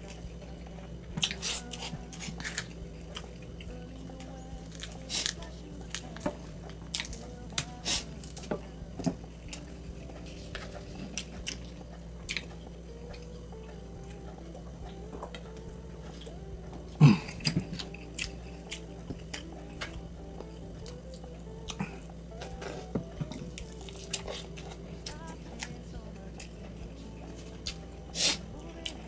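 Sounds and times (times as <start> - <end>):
chewing with wet smacks: 0.0 - 29.0.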